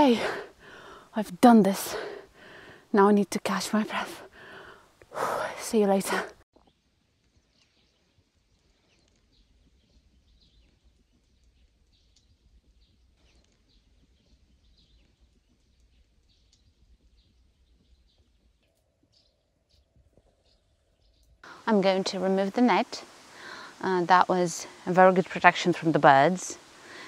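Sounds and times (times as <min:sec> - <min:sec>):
distant birds chirping: 0:00.0 - 0:27.0.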